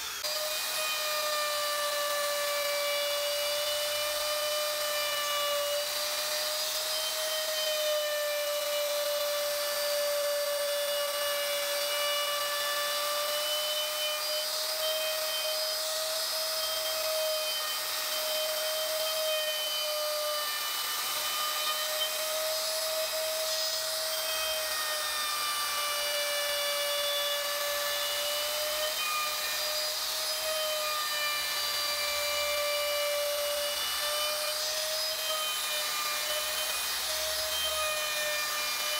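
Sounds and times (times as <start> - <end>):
wood router whining: 0.0 - 38.9.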